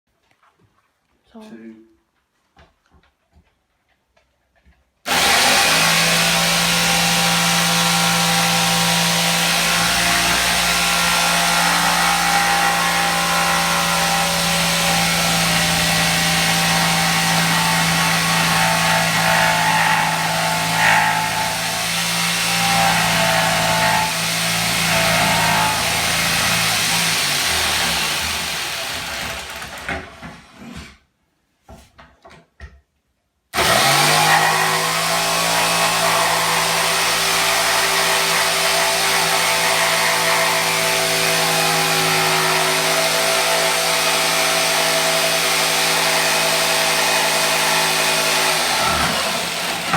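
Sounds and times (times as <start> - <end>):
power saw cutting wood: 5.1 - 30.0, 33.6 - 49.9.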